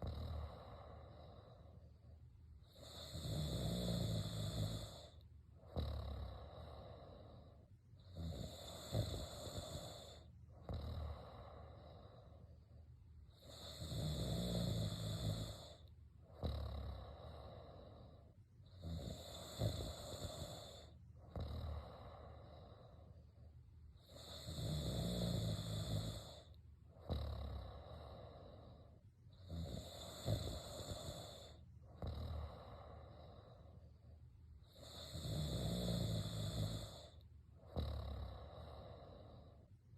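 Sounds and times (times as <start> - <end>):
loud snoring: 0.0 - 1.8, 2.7 - 12.4, 13.3 - 23.0, 24.0 - 33.7, 34.6 - 39.6
quiet breathing: 0.0 - 39.9.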